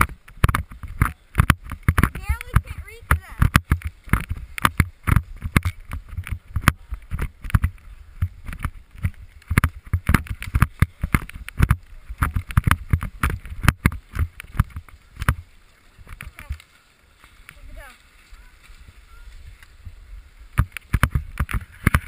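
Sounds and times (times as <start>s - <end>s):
skis scraping over snow: 0.0s - 22.0s
wind buffeting on camera: 0.0s - 22.0s.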